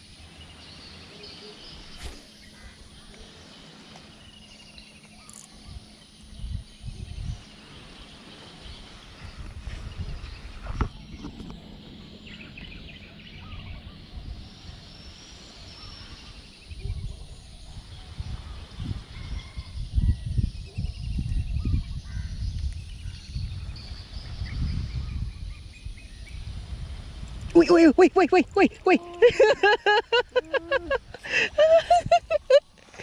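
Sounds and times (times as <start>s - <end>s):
birds chirping and trilling: 0.0s - 26.6s
wind buffeting microphone: 5.6s - 33.0s.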